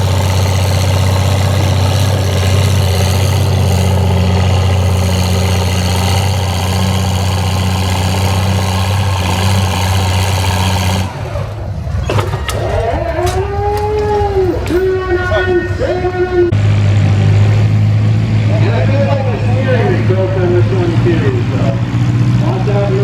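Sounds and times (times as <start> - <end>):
tractor engine running under load: 0.0 - 23.0.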